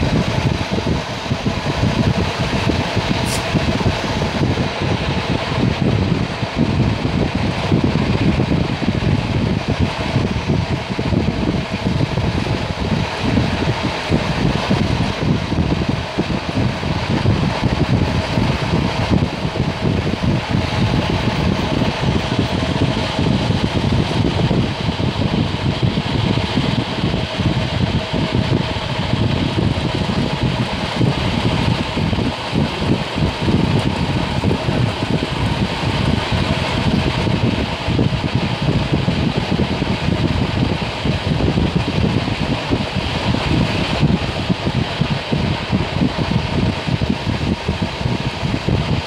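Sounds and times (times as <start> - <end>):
passenger train rumbling: 0.0 - 49.0.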